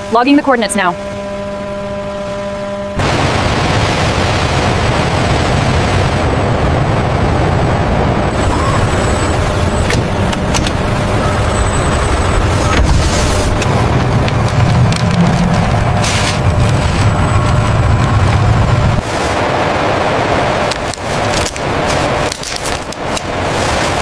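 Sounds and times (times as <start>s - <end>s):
heavy machinery rumbling: 0.0s - 24.0s.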